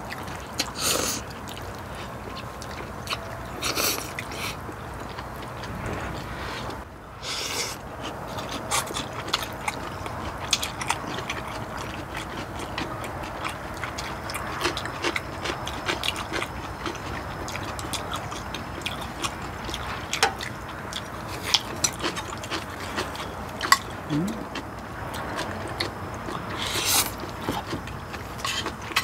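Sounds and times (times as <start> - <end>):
chewing and slurping noodles: 0.0 - 5.8, 7.2 - 29.0.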